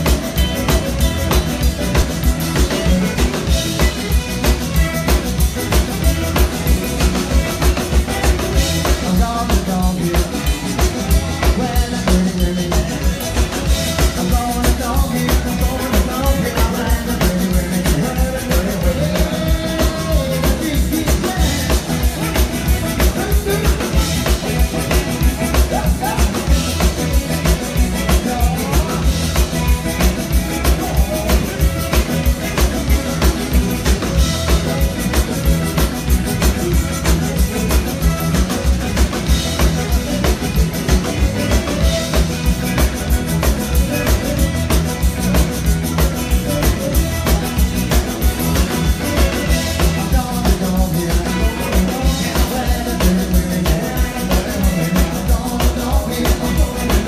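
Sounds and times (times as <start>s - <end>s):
accordions playing: 0.0s - 57.0s
drum kit beat: 0.0s - 57.0s
electric guitar: 0.0s - 57.0s.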